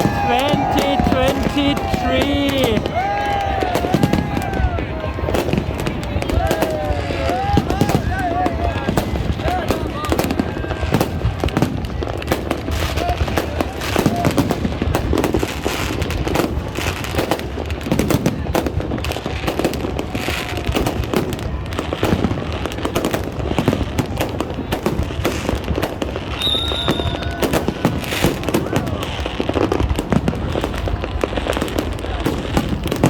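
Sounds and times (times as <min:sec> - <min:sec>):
firecrackers rattling: 0:00.0 - 0:33.0
fireworks bangs and crackling: 0:00.0 - 0:33.0.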